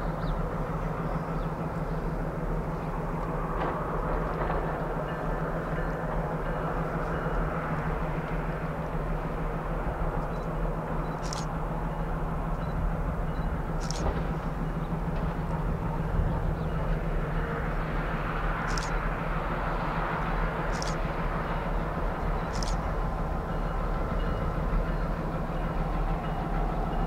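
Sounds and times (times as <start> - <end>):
freight train diesel drone: 0.0 - 27.0.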